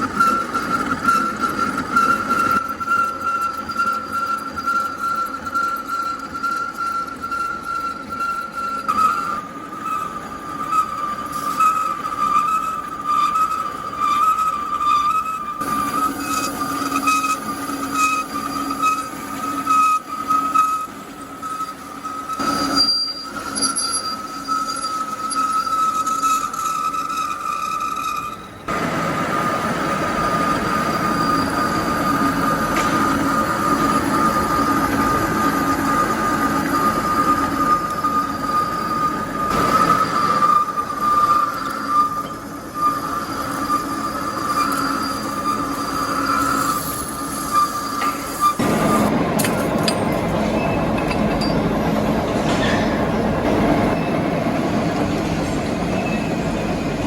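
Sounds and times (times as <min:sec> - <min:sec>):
rough grinding noise: 0:00.0 - 0:54.2
metal lathe whining: 0:00.0 - 0:57.0.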